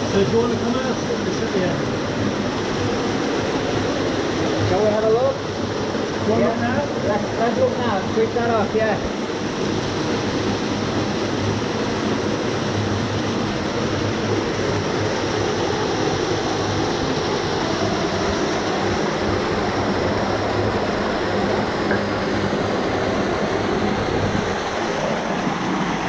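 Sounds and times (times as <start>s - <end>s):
falling water rushing: 0.0s - 26.0s.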